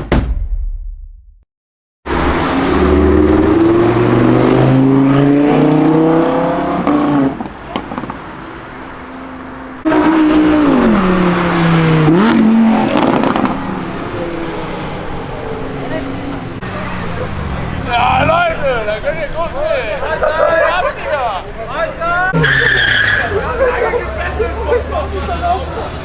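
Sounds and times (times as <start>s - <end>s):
car engine accelerating: 2.1s - 26.0s
second loud engine: 2.1s - 26.0s.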